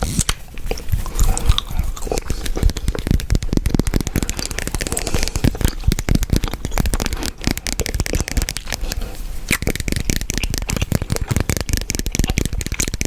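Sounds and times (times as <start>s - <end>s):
chewing gum wet clicks: 0.2s - 13.0s.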